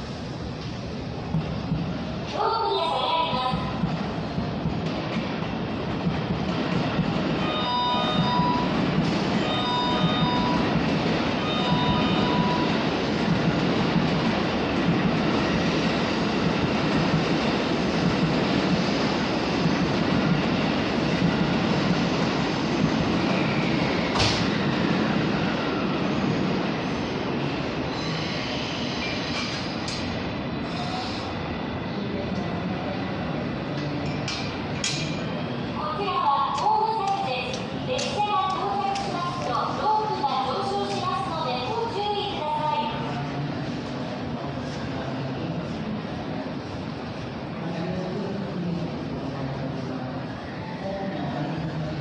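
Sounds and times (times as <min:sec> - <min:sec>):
train wheels rumbling: 0:00.0 - 0:51.0.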